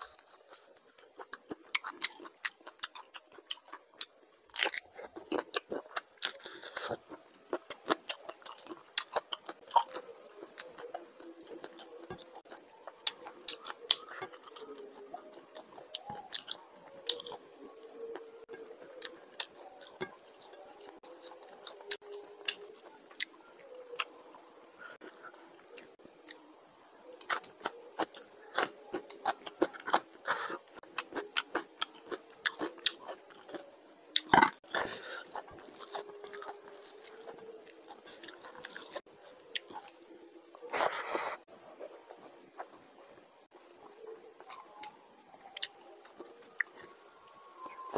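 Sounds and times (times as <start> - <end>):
man chewing food: 0.0 - 47.9.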